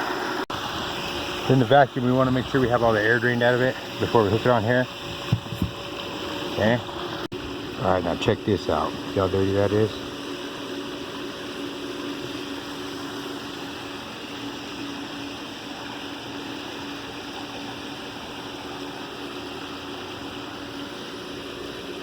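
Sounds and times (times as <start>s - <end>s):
faint motor hum: 0.0s - 22.0s
pool pump water rushing: 0.0s - 22.0s.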